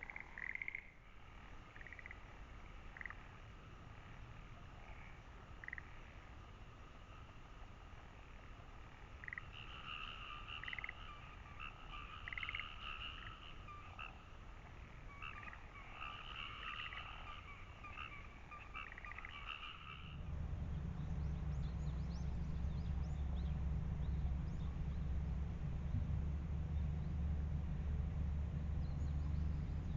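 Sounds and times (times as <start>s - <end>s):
frogs croaking and trilling: 0.0s - 29.9s
low steady hum: 0.0s - 29.9s.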